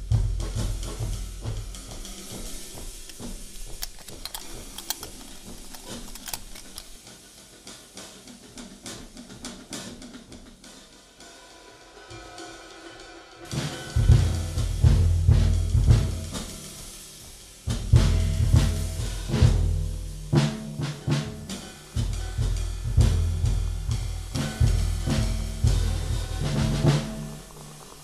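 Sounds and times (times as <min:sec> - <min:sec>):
hi-hat and cymbal ticks: 0:00.0 - 0:12.5, 0:13.5 - 0:28.0.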